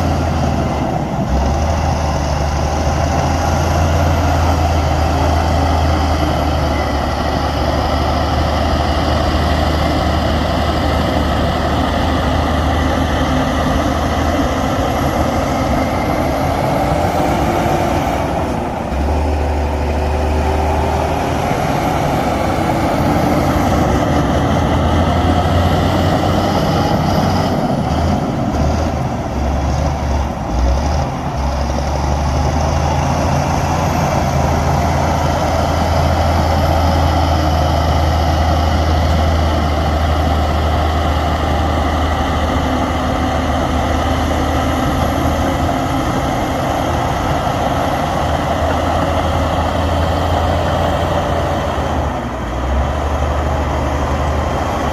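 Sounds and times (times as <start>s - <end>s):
heavy diesel machinery engine: 0.0s - 54.9s.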